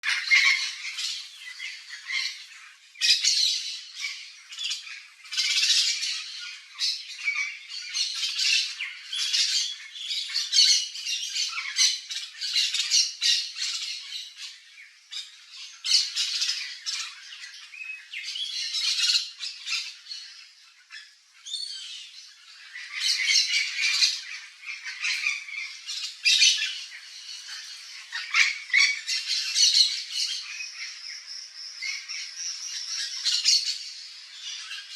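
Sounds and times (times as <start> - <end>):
parrots squawking: 0.0 - 34.9.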